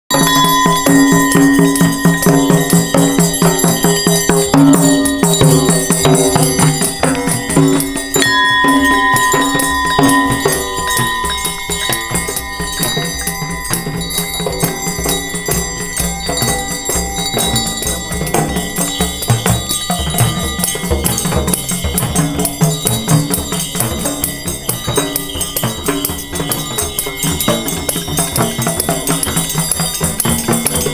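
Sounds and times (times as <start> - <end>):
hand drums beaten fast: 0.1 - 30.9
tambourines jingling: 0.1 - 30.9.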